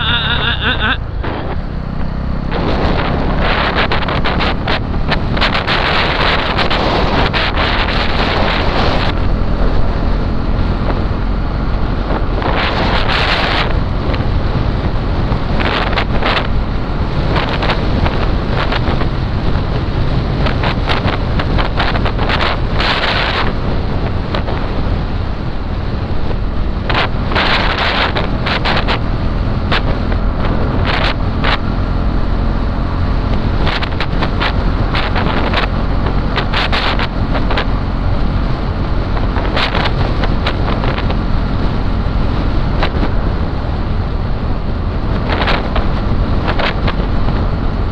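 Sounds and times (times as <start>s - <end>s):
motorcycle engine drone: 0.0s - 47.9s
road rumble: 0.0s - 47.9s
wind buffeting microphone: 0.0s - 47.9s.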